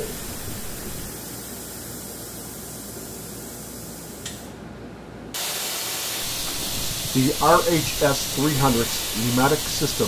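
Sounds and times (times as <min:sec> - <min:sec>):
steady hiss: 0:00.0 - 0:04.6, 0:05.4 - 0:10.0.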